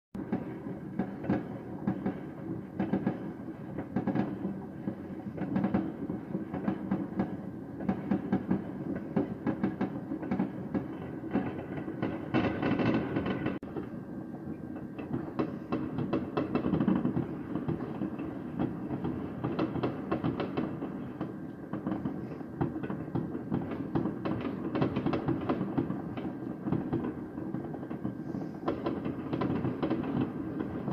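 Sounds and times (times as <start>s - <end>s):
distant fireworks barrage: 0.2s - 30.9s.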